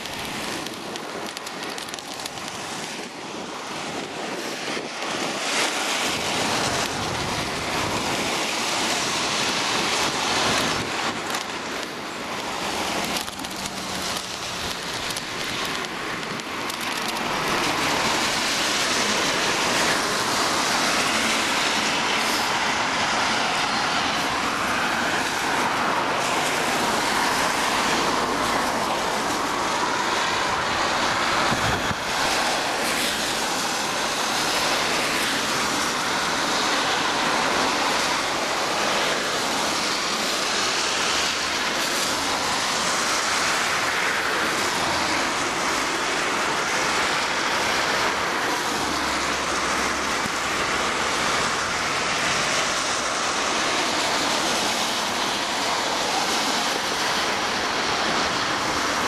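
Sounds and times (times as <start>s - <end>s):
cars passing on wet road: 0.0s - 59.0s
rain falling: 0.0s - 59.0s.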